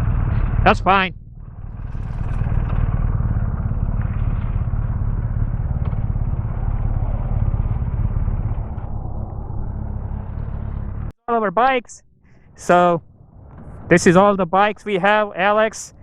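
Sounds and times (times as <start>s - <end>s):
motorcycle engine idling: 0.0s - 11.1s, 12.2s - 16.0s.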